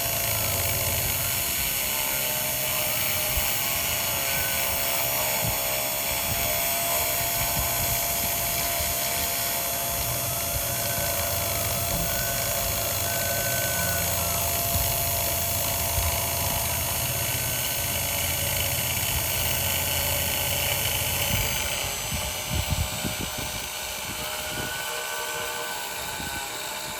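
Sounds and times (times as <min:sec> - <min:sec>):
spindle motor running: 0:00.0 - 0:26.9
stepper motors whining: 0:00.0 - 0:26.9.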